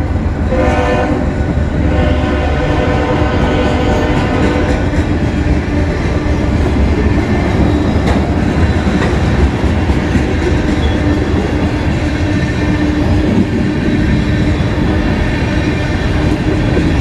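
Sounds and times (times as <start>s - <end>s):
train wheels rumbling on rails: 0.0s - 17.0s
train wheels clacking: 2.9s - 17.0s.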